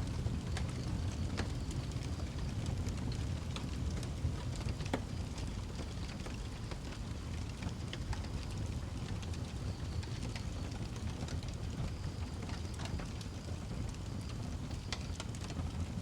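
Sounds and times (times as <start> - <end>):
wood fire crackling: 0.1 - 16.0.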